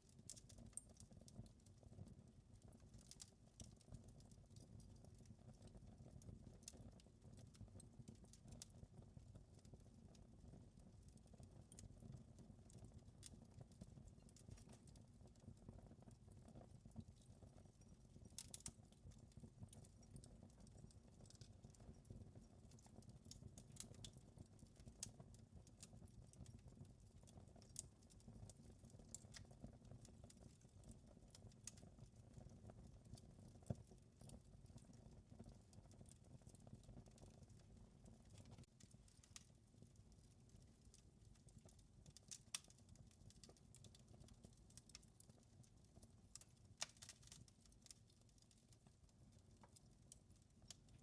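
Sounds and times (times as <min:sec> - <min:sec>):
wood fire crackling: 0:00.1 - 0:51.0.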